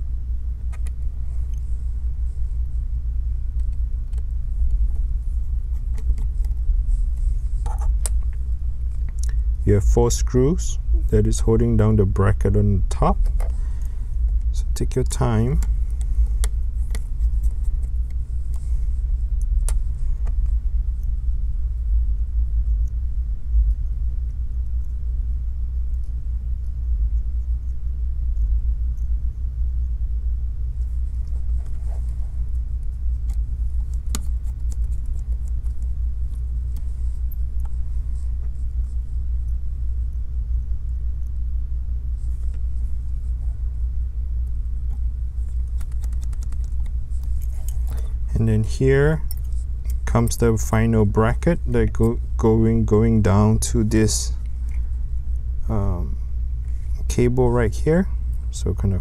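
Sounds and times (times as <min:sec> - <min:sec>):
low rumble: 0:00.0 - 0:59.0.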